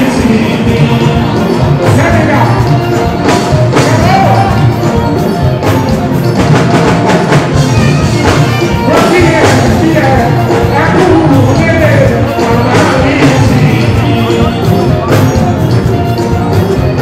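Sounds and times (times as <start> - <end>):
person singing: 0.0 - 6.0, 7.5 - 17.0
drums and percussion beating: 0.0 - 17.0.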